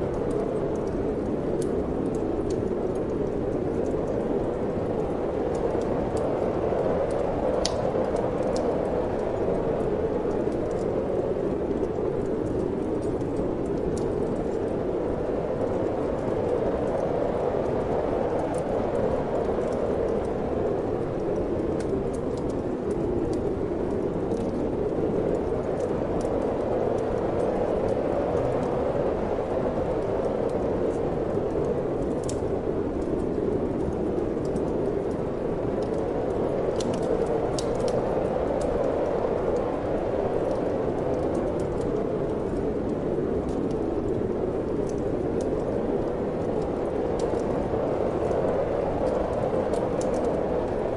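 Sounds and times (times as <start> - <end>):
wind blowing: 0.0 - 50.9
wood fire crackling: 0.0 - 50.9.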